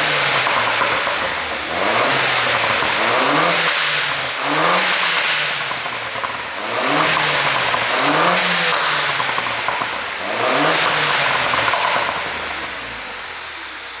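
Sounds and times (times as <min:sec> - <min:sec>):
car engine revving with exhaust pops: 0:00.0 - 0:14.0.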